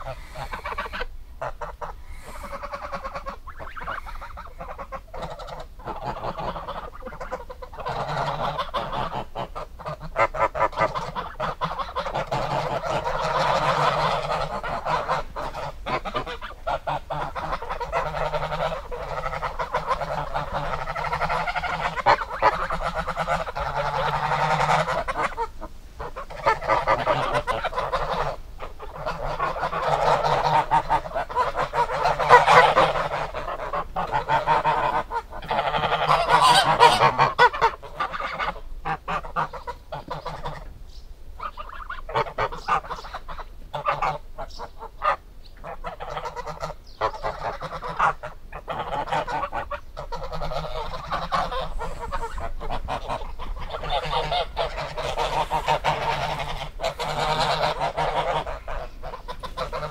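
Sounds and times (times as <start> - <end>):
geese honking: 0.0 - 59.9.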